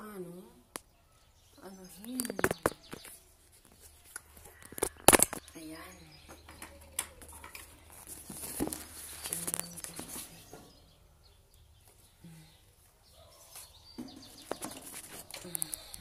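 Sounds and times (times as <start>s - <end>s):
bird chirps: 0.1s - 16.0s.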